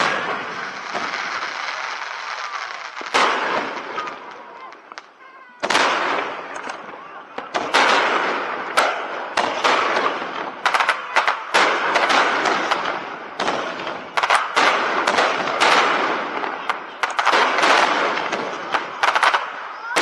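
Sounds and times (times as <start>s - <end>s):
fireworks bursting with sharp bangs: 0.0s - 20.0s
fireworks crackling hiss: 0.0s - 20.0s.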